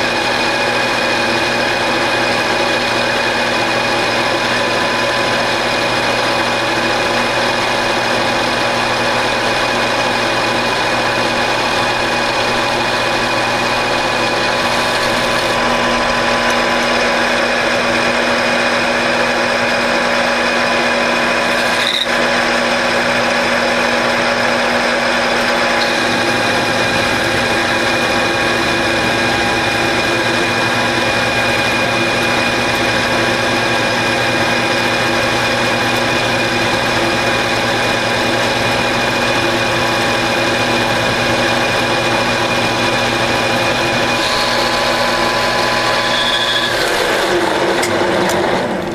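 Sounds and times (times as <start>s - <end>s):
cutting tool turning steel: 0.0s - 48.9s
metal lathe humming: 0.0s - 48.9s.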